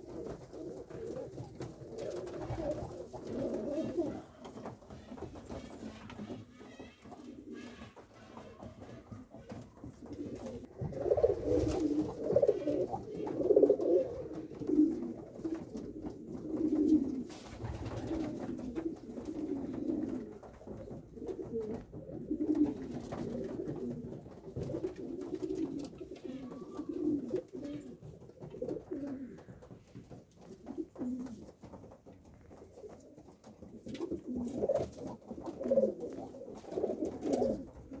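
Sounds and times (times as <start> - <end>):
pigeons cooing: 0.0 - 31.5, 32.5 - 38.0.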